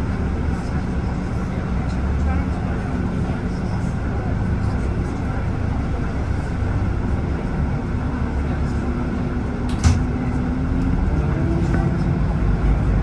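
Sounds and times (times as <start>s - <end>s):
bus engine idling rumble: 0.0s - 13.0s.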